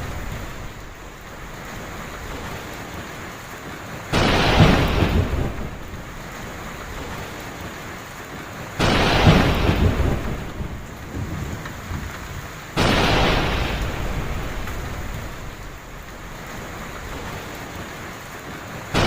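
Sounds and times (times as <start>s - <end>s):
heavy rain falling: 0.0s - 19.0s
thunderclaps: 3.6s - 19.0s.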